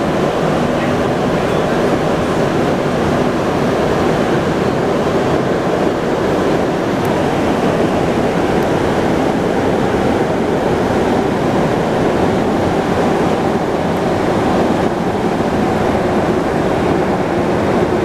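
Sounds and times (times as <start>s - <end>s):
metro car rushing through tunnel: 0.0s - 18.0s.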